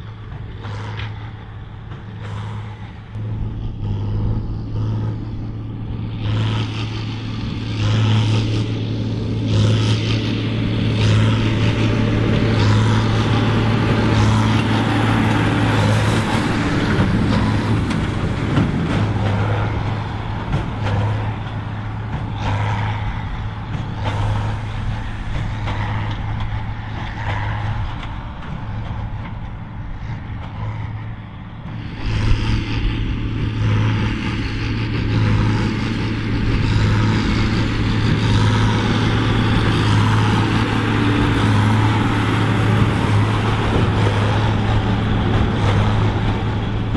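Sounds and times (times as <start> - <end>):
tractor diesel engine running hard: 0.0 - 46.9.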